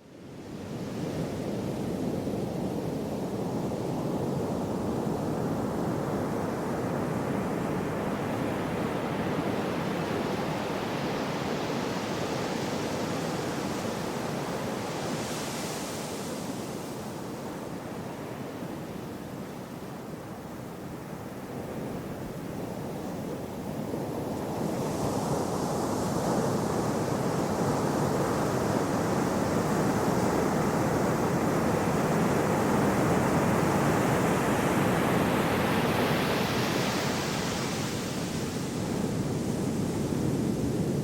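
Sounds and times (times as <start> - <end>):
gentle sea waves: 0.2 - 41.0.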